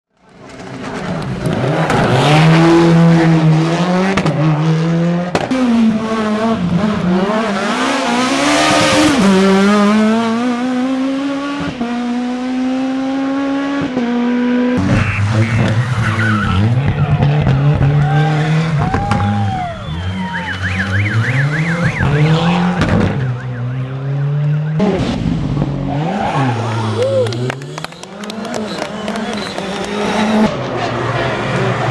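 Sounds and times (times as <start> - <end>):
rally car engines revving: 0.2 - 31.9.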